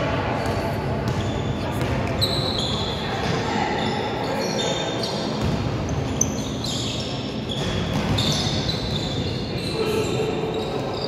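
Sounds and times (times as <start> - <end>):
sneakers squeaking on court floor: 0.3 - 11.0.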